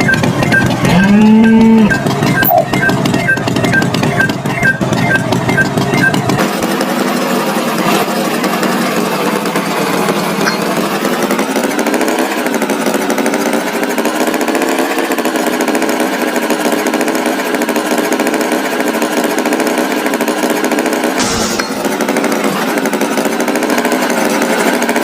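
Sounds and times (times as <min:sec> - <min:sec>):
tractor engine rattling: 0:00.0 - 0:25.0.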